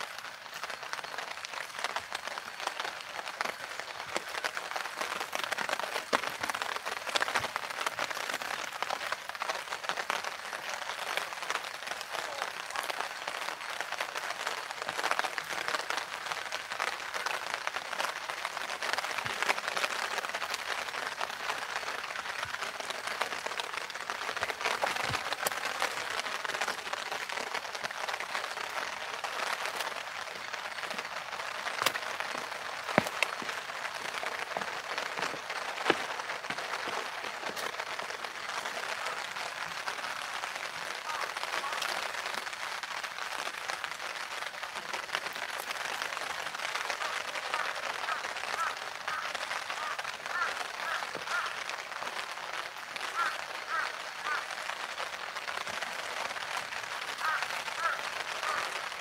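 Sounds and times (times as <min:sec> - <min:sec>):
rain on plastic umbrella: 0:00.0 - 0:59.0
sharp raindrop taps: 0:00.0 - 0:59.0.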